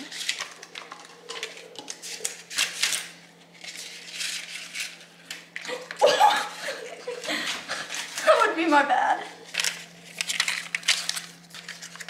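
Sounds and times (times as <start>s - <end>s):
paper liners rustling and crinkling: 0.0s - 6.0s, 7.1s - 12.0s.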